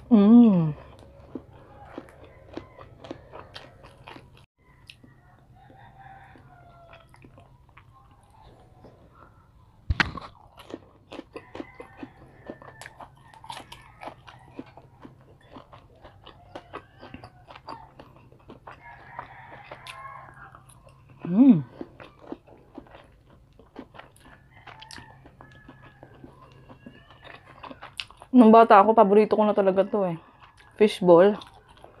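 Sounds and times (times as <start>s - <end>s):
person chewing and biting: 0.7s - 5.1s, 6.3s - 28.3s, 31.4s - 32.0s.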